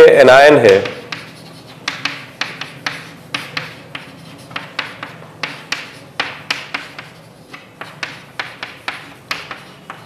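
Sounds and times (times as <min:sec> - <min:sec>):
pen tapping and scratching on board: 0:00.6 - 0:10.0.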